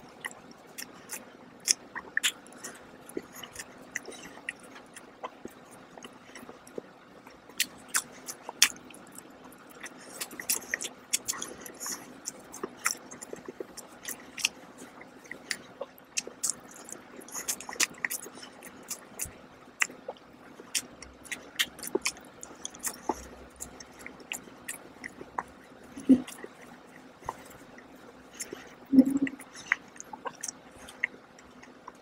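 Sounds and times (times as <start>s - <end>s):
wet chewing mouth clicks: 0.1s - 32.0s.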